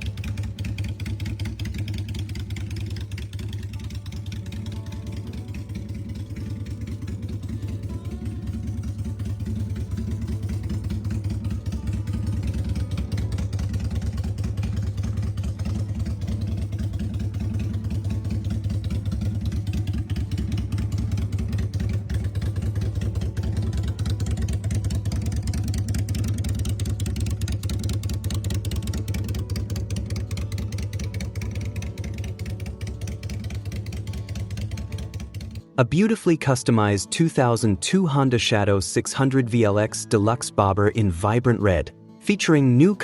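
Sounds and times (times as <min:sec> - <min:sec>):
motorcycle engine idling: 0:00.0 - 0:35.8.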